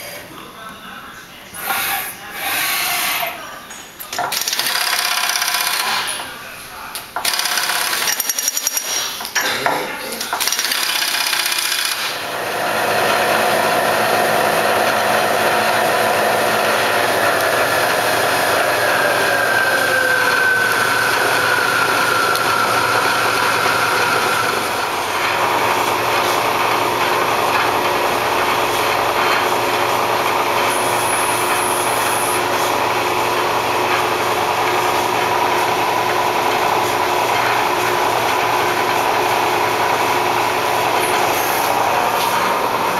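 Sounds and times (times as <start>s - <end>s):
mill spindle whirring: 1.5s - 9.4s, 10.3s - 42.9s.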